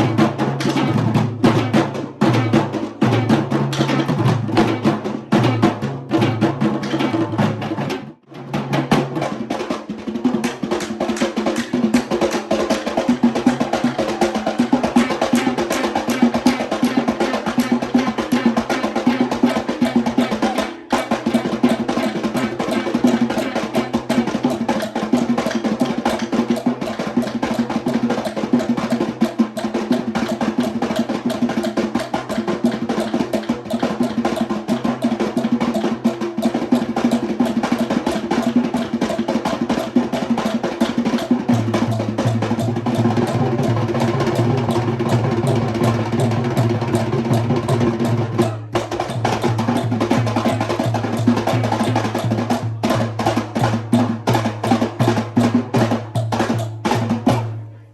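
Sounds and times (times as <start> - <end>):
drum ensemble playing fast rhythms: 0.0 - 57.7.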